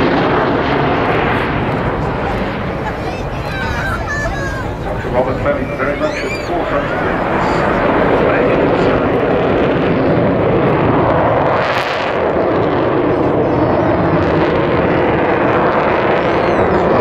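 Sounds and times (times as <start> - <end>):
jet bomber flying rumble: 0.0 - 17.0.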